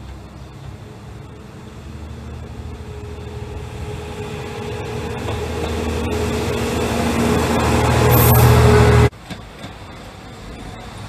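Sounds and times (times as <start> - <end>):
diesel railcar engine drone: 0.0 - 11.0
train wheels on rails: 0.0 - 11.0.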